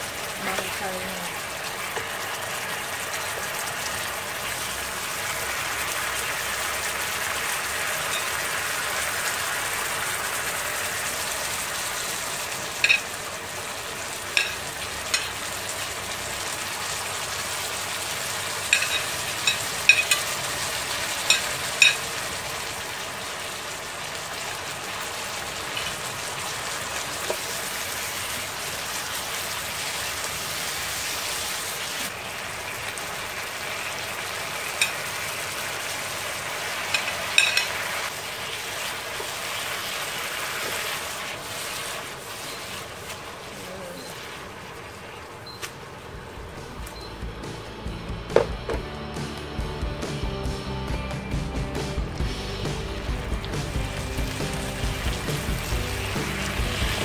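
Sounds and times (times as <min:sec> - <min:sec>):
meat sizzling in a wok: 0:00.0 - 0:46.8, 0:51.8 - 0:57.0.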